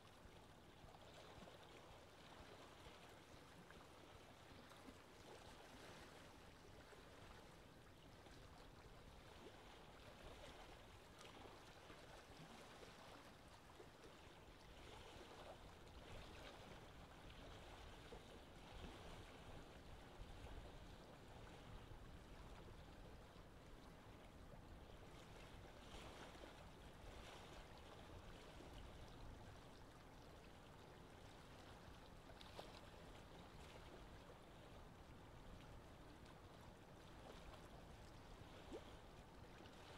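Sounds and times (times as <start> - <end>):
choppy sea water: 0.0 - 39.9
wind: 0.0 - 39.9.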